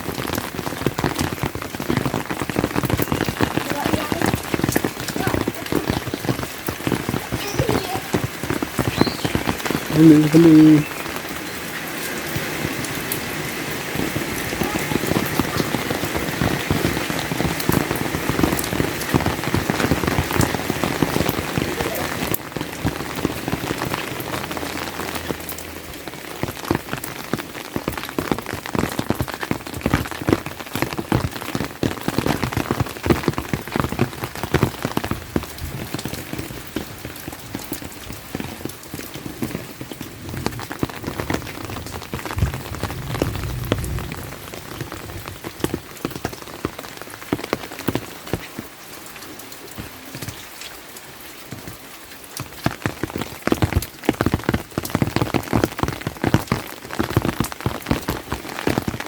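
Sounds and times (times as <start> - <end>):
rain drops pattering: 0.0 - 59.0.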